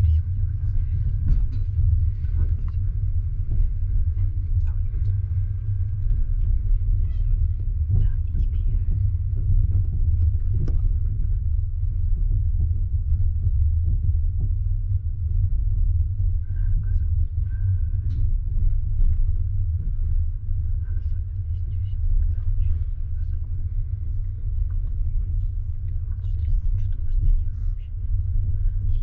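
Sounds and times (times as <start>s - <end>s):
coach rumbling from inside: 0.0s - 29.0s.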